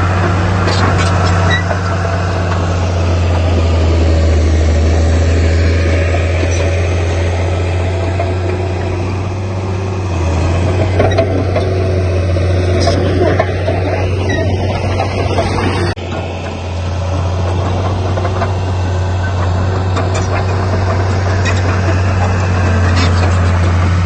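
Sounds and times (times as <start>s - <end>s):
diesel machine engine running: 0.0s - 24.0s.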